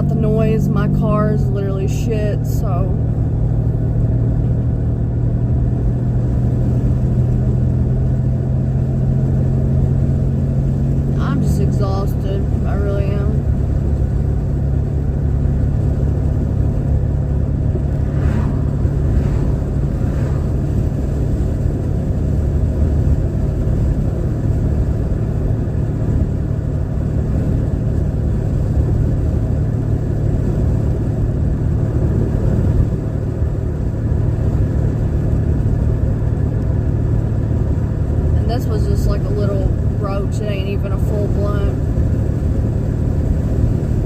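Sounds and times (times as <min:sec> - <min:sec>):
car engine drone inside cabin: 0:00.0 - 0:44.0.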